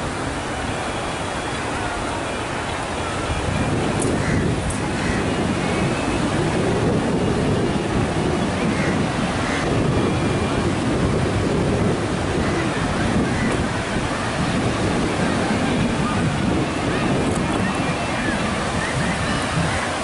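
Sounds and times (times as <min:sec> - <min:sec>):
ocean surf breaking on beach: 0:00.0 - 0:20.0
wind buffeting microphone: 0:00.0 - 0:20.0.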